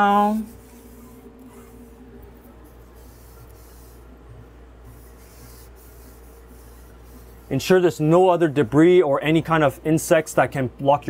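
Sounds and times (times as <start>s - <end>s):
damp rag rubbing: 0.0s - 9.8s
steady low hum: 0.0s - 11.0s.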